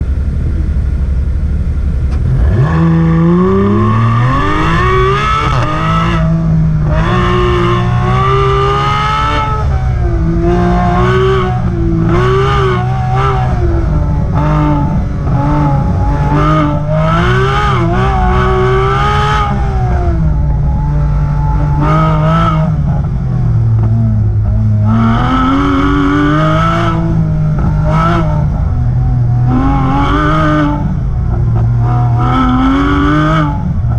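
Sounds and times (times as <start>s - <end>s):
sports car exhaust revving: 0.0s - 33.9s.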